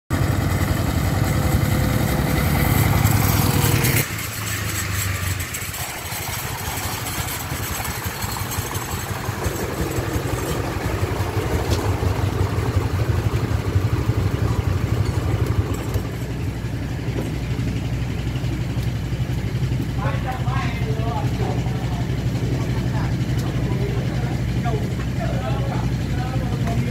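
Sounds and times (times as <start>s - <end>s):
diesel engine running: 0.1s - 26.9s.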